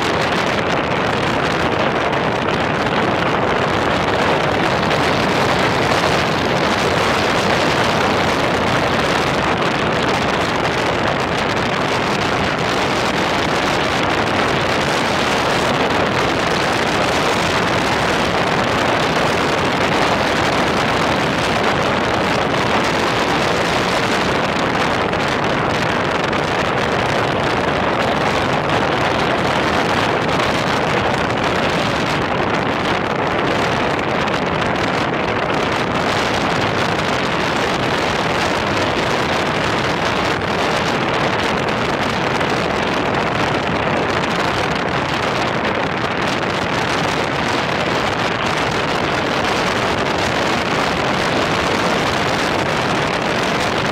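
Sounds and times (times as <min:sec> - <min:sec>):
wind on microphone: 0:00.0 - 0:53.9.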